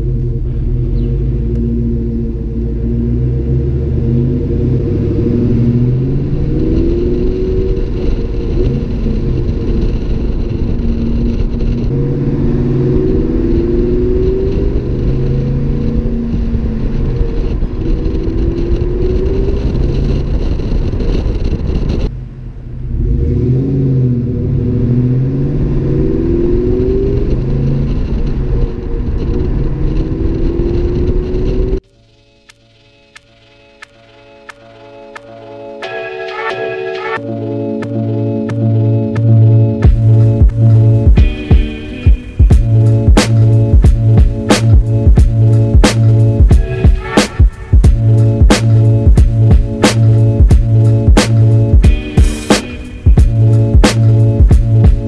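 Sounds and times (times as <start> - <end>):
car engine accelerating: 0.0 - 31.8, 37.2 - 55.0.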